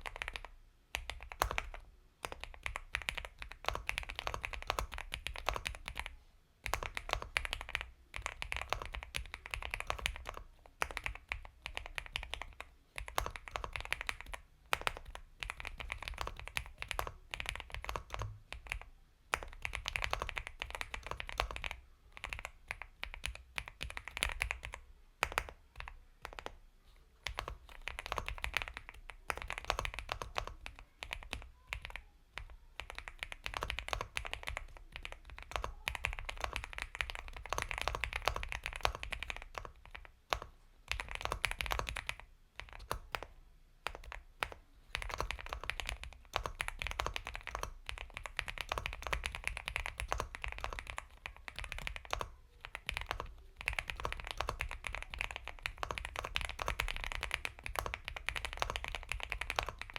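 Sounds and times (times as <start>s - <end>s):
mechanical keyboard typing: 0.0s - 26.6s, 27.2s - 59.9s.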